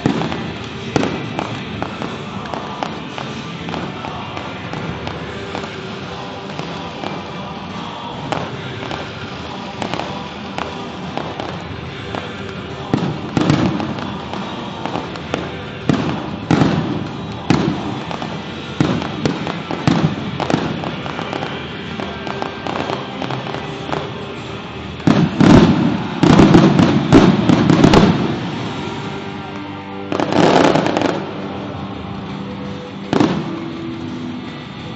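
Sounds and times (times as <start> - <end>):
fireworks bangs: 0.0 - 34.5
music playing: 0.0 - 34.9.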